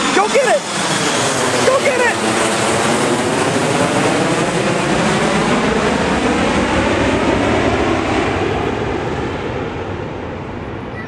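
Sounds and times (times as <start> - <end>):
airplane flying overhead: 0.0 - 11.0.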